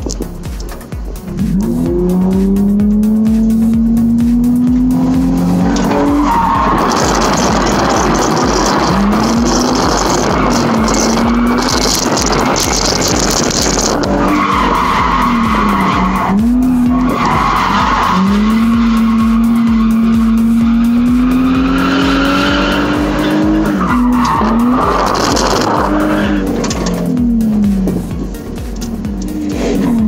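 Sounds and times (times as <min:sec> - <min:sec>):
car engine at high revs: 0:00.0 - 0:30.0
tyres skidding and squealing: 0:00.0 - 0:30.0.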